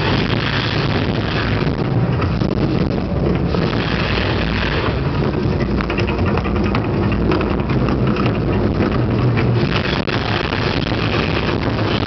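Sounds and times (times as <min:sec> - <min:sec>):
crackle: 0:00.0 - 0:12.0
rumble of flame bursts: 0:00.0 - 0:12.0.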